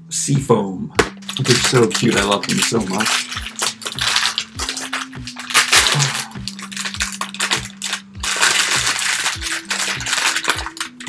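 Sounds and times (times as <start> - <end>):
background music with beat: 1.0 - 11.0
foil bag crinkling: 1.0 - 11.0.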